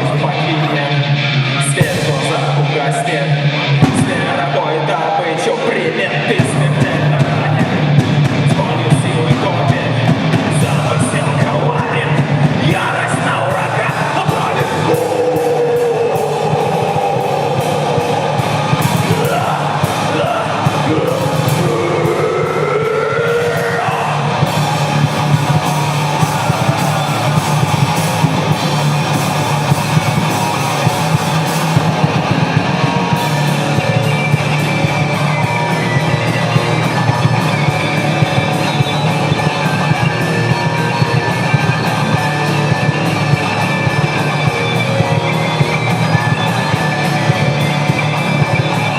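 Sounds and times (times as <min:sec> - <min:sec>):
loud rock music: 0:00.0 - 0:48.9.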